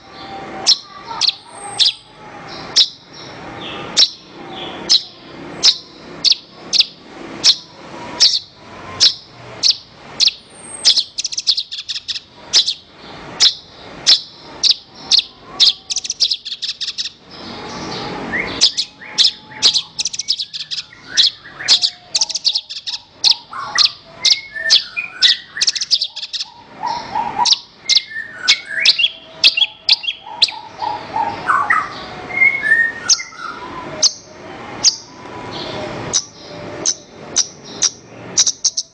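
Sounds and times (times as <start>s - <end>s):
lark singing high chirps: 0.0s - 38.9s.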